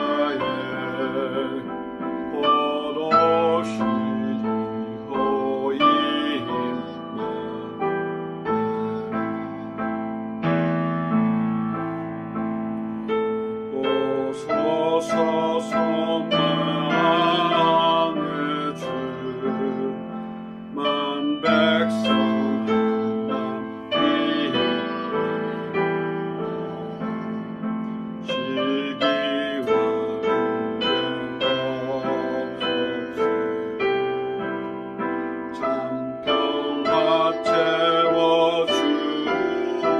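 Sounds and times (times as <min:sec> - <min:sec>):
slow hymn with held chords: 0:00.0 - 0:39.9.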